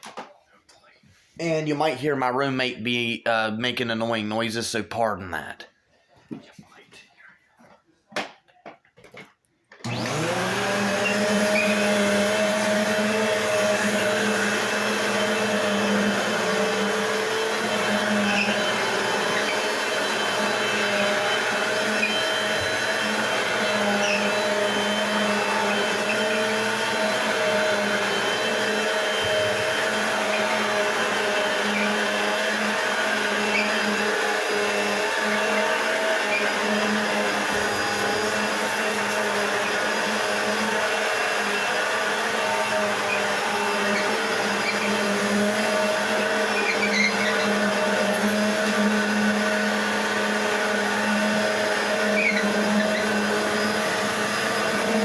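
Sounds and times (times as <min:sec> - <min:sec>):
vacuum cleaner motor running: 0:09.8 - 0:55.0.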